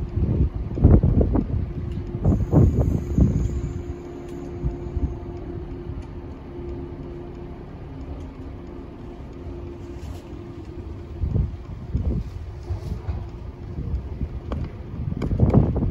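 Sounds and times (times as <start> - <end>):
electric train humming: 0.0 - 15.9
wind rumbling on microphone: 0.0 - 15.9.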